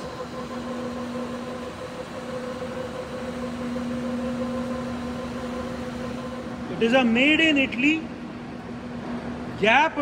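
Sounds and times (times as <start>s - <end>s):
lathe running with steady hum: 0.0s - 10.0s.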